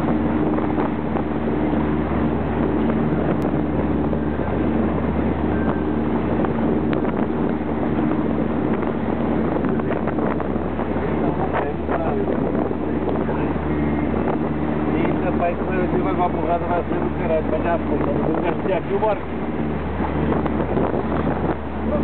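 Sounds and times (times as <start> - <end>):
motorboat engine humming: 0.0 - 22.0
water rushing: 0.0 - 22.0
wind on microphone: 0.0 - 22.0.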